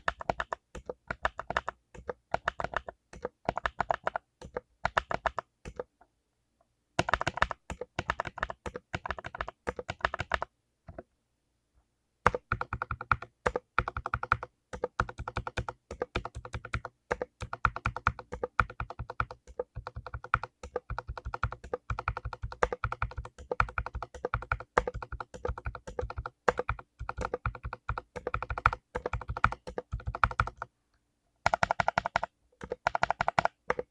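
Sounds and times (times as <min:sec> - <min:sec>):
clicky mechanical keyboard typing: 0:00.0 - 0:05.9, 0:07.0 - 0:11.0, 0:12.3 - 0:30.7, 0:31.4 - 0:33.9.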